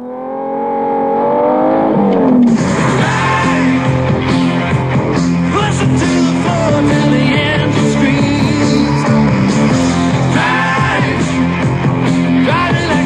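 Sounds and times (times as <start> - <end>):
sliding pitched tone: 0.0 - 12.7
rock backing music: 1.8 - 13.0.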